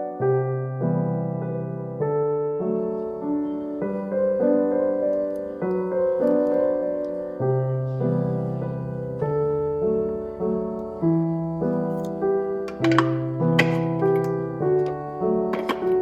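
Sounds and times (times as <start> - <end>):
slow solo piano piece: 0.0 - 16.0.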